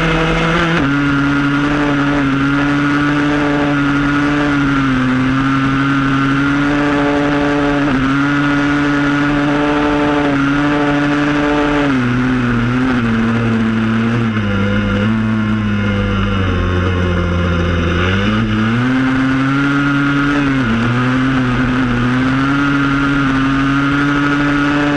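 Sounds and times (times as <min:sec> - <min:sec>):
two-stroke engine revving high: 0:00.0 - 0:24.9.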